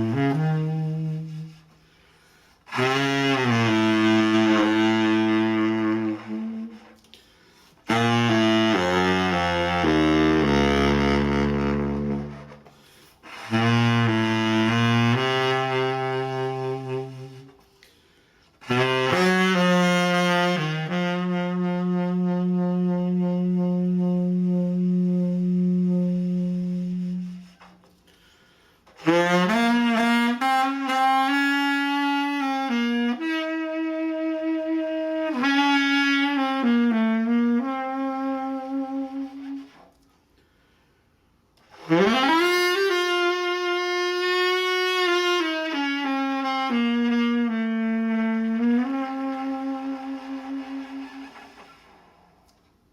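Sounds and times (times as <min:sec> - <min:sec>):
solo saxophone: 0:00.0 - 0:52.9.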